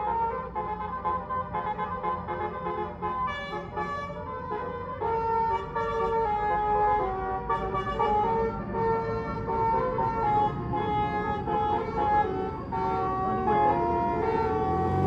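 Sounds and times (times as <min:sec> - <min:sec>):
low rumble of bus: 0:00.0 - 0:15.0
multi-tone bus horn melody: 0:00.0 - 0:15.0.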